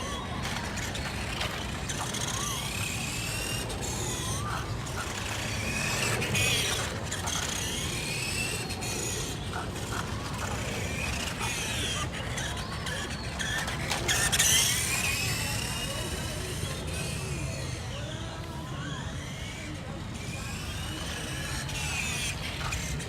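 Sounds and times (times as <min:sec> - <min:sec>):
electric motor and gears whining: 0:00.0 - 0:23.0.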